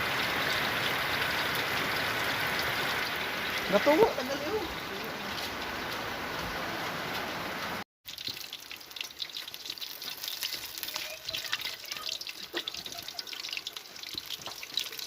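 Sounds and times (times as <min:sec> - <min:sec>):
crackling and popping of frying oil: 0:00.0 - 0:15.0.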